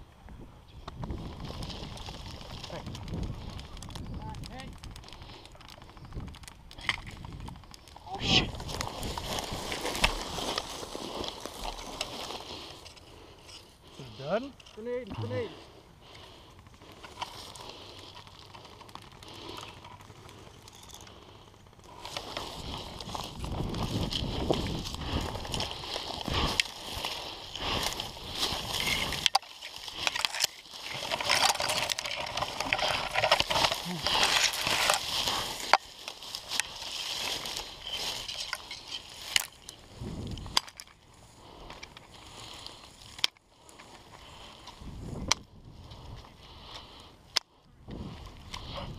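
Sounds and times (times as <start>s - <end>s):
dry grass rustling against clothing: 0.0s - 48.9s.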